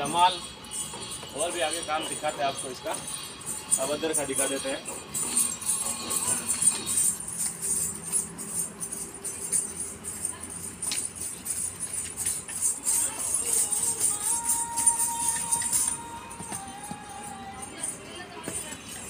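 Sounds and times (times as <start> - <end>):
horse bells jingling: 0.0 - 19.0.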